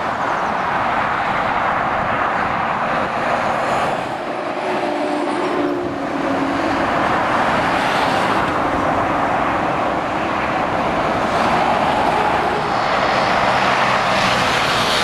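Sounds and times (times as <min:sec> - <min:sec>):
motorway traffic: 0:00.0 - 0:15.0
truck passing: 0:00.0 - 0:15.0.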